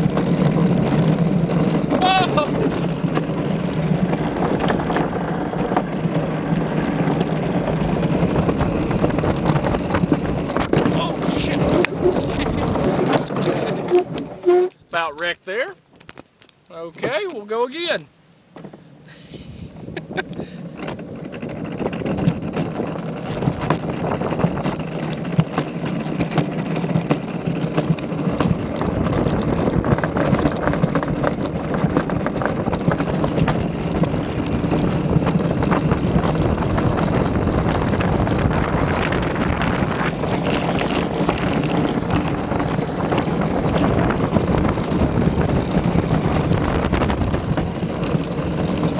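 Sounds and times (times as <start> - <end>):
rattles and knocks: 0.0 - 14.8, 20.0 - 48.9
wind on microphone: 0.0 - 15.0, 18.7 - 48.9
cart rolling on concrete: 0.0 - 16.2, 17.0 - 48.9.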